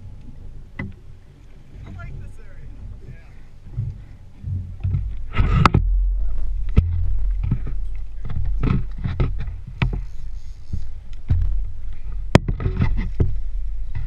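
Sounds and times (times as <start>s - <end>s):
boat low rumble: 0.0s - 14.0s.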